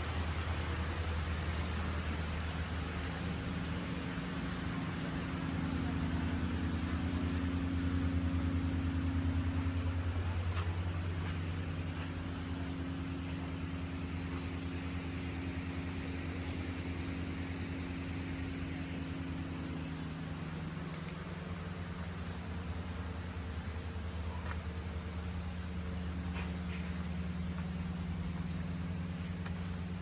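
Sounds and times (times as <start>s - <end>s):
engine humming: 0.0s - 30.0s
steady hiss: 0.0s - 30.0s.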